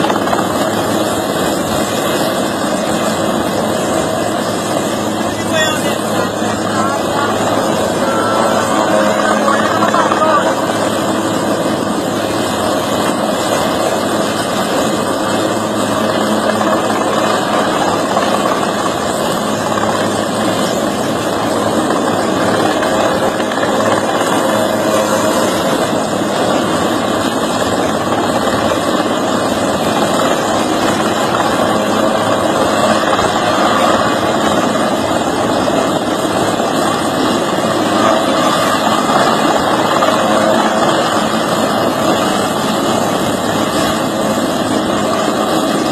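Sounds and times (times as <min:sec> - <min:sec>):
engine running loudly: 0:00.0 - 0:45.9.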